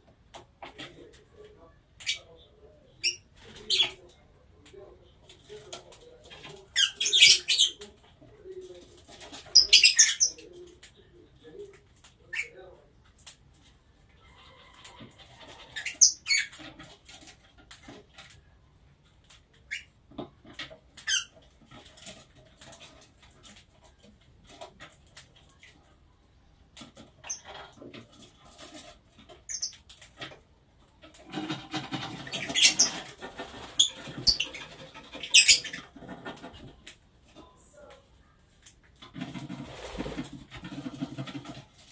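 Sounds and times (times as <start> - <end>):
birds chattering: 0.3 - 37.6
small birds chirping: 0.3 - 39.0.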